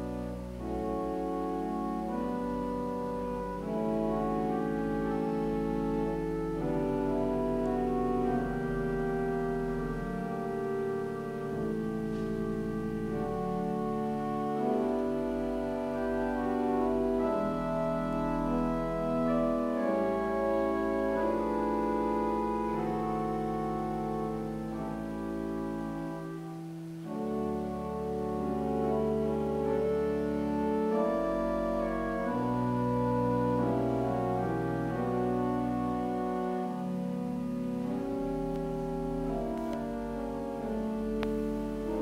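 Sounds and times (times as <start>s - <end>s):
church pipe organ chords: 0.0s - 42.0s.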